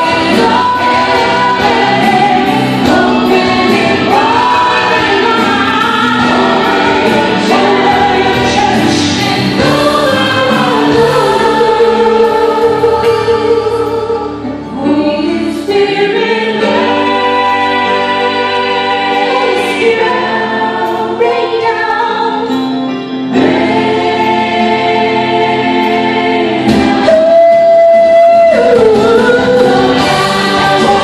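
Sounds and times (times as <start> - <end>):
band playing worship music: 0.0 - 31.0
woman singing into microphone: 0.0 - 31.0.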